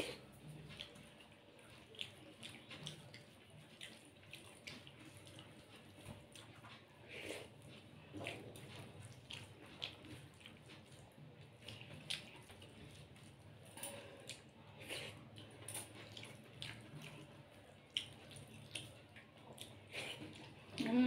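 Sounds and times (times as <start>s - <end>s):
chewing and lip smacks: 0.0s - 21.0s.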